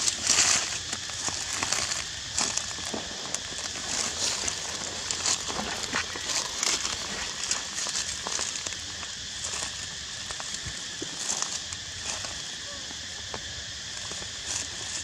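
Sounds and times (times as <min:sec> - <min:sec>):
light crackling and rustling: 0:00.0 - 0:15.0
steady high hiss: 0:00.0 - 0:15.0.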